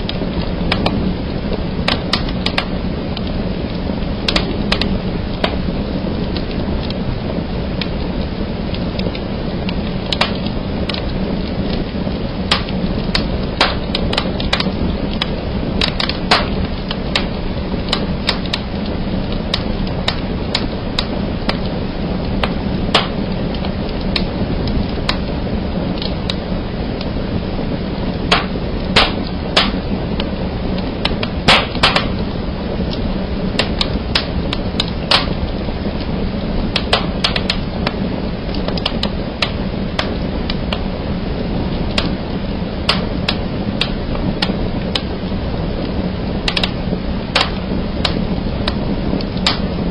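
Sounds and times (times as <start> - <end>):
fire snapping and cracking: 0.0 - 49.9
low rumble of flames: 0.0 - 49.9.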